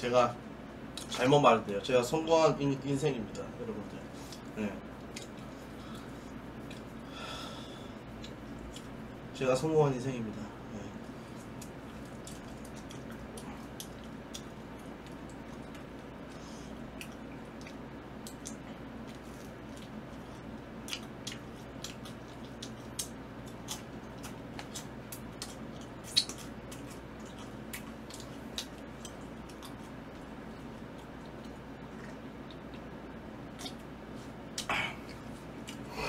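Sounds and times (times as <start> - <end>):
low background hum: 0.0 - 36.0
man chewing: 4.1 - 9.2, 10.9 - 36.0.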